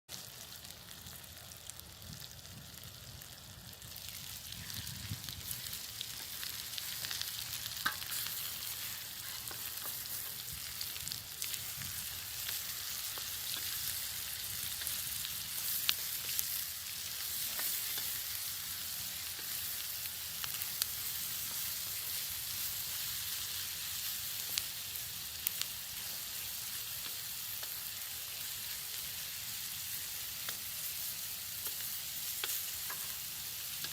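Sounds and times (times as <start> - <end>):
food sizzling in a pan: 0.1 - 33.9.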